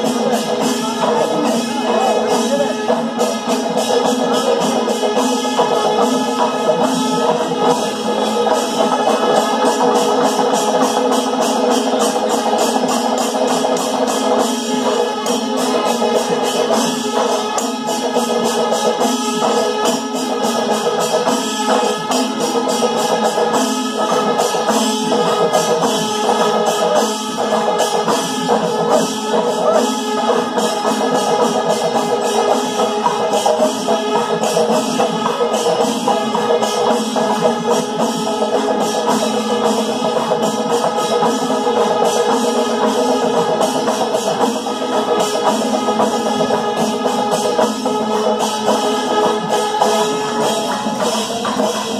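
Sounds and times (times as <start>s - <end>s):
hand cymbals clashing: 0.0s - 51.9s
massed drums beaten fast: 0.0s - 51.9s.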